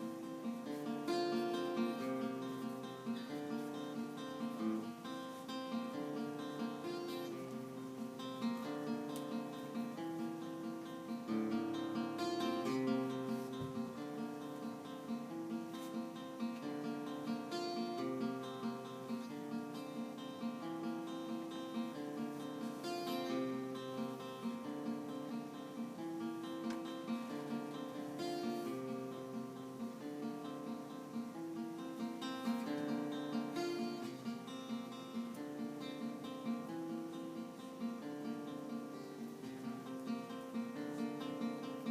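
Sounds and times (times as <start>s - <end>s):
flamenco acoustic guitar: 0.0s - 41.9s.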